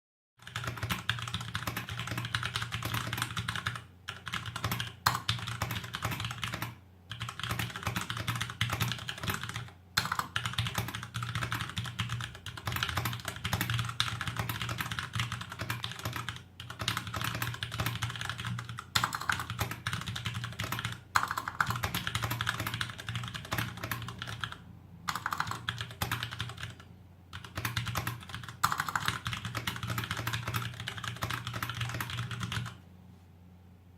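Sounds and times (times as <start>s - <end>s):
mechanical keyboard typing: 0.4s - 32.8s.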